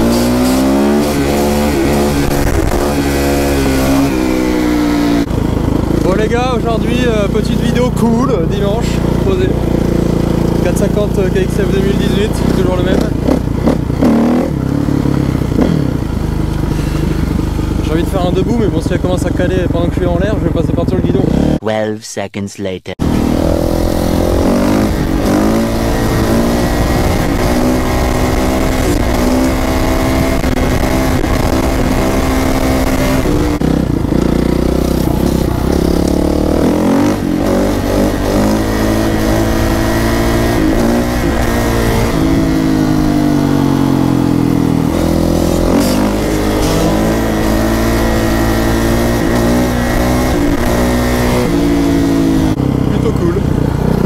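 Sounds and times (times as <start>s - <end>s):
dirt bike engine revving: 0.0s - 21.6s, 23.0s - 54.0s.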